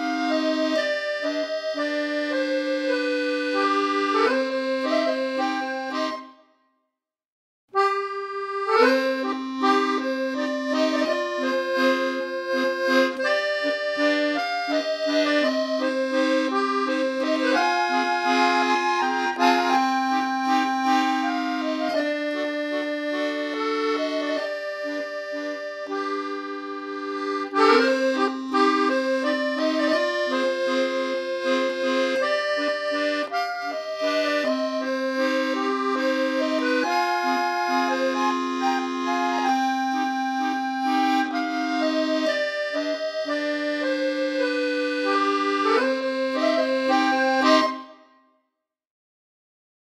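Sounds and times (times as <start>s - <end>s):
accordion music: 0.0s - 6.5s, 7.8s - 48.2s.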